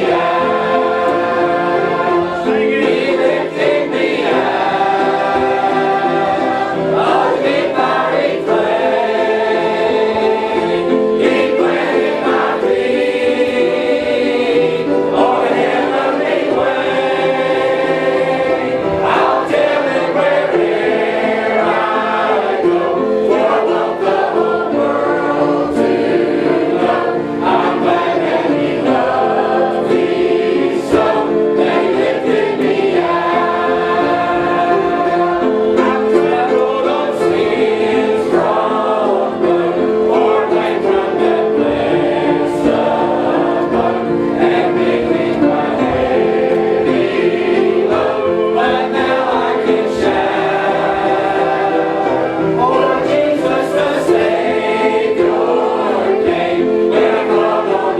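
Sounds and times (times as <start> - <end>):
congregation singing a hymn: 0.0 - 57.9.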